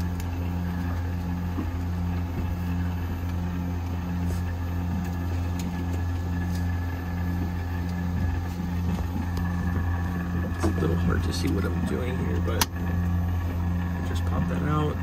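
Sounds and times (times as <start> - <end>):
air conditioner hum: 0.0 - 15.0
faint throb: 0.0 - 15.0.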